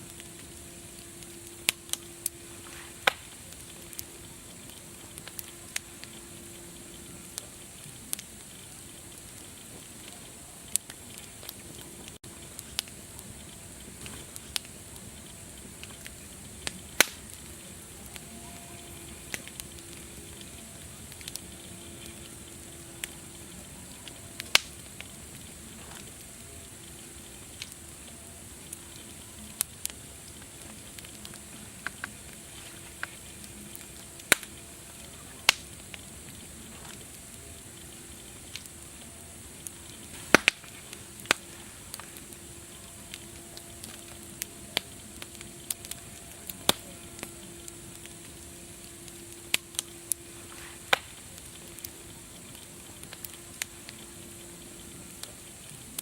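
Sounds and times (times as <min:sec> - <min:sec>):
sharp fire pops: 0:00.0 - 0:56.0
wood fire crackling: 0:00.0 - 0:56.0.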